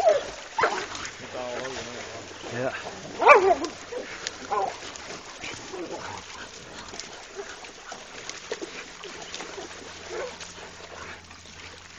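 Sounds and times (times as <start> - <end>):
dogs and hog whining and grunting: 0.0 - 1.2, 2.8 - 11.8
splashing water: 0.0 - 11.9.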